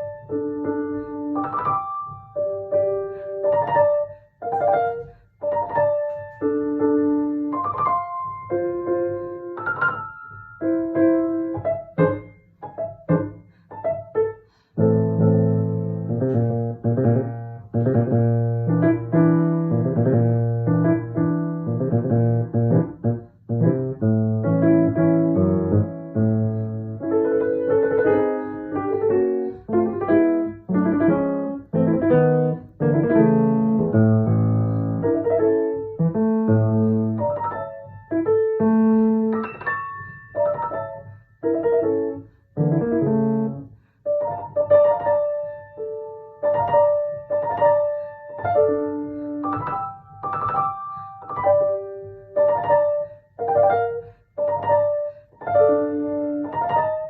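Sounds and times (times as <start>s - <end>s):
piano piece: 0.0s - 57.0s.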